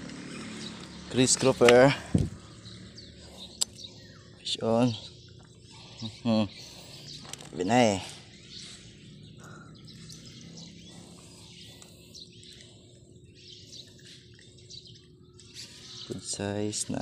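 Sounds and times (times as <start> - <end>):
low steady hum: 0.0 - 17.0
faint bird chirps: 2.2 - 17.0.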